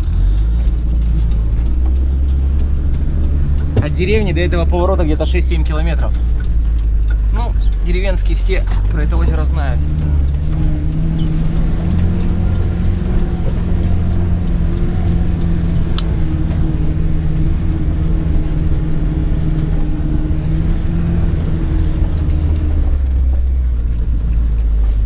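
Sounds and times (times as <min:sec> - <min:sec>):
van engine running: 0:00.0 - 0:25.0.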